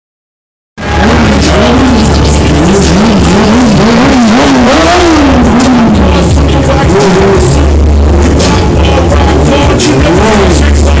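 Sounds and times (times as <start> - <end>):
motorcycle engine revving hard: 0.8 - 11.0.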